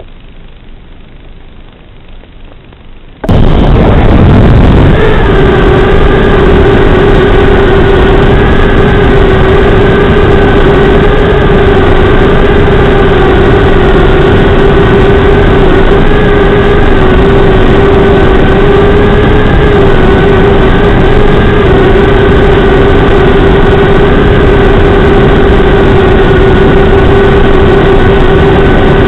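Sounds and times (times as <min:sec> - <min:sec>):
quadcopter motors buzzing: 0:03.2 - 0:29.0.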